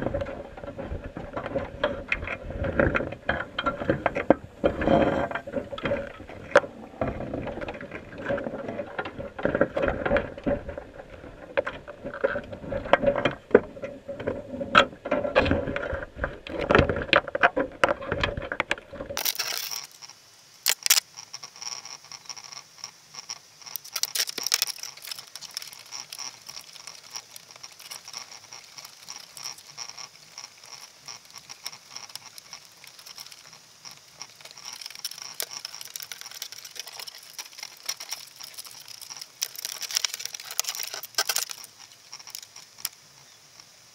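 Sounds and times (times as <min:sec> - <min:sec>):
underwater clicking and scraping: 0:00.0 - 0:43.9.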